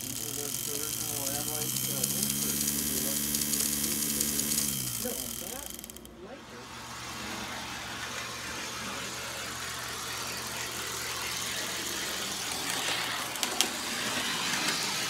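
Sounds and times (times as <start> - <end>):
toy train motor whirring rattle: 0.0 - 15.0.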